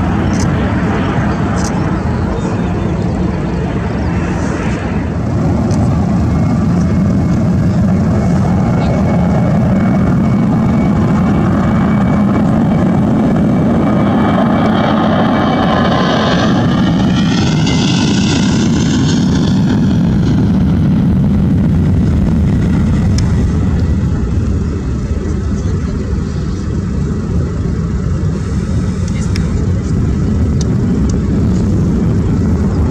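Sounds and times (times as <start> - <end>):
jet engine whine sweeping in pitch: 0.0 - 32.9
jet engines at takeoff power: 0.0 - 32.9.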